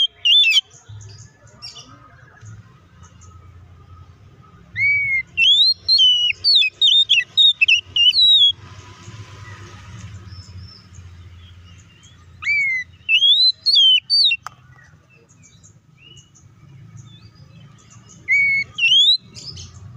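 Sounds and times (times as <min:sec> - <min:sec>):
bird singing whistled notes: 0:00.0 - 0:09.6, 0:10.2 - 0:19.9.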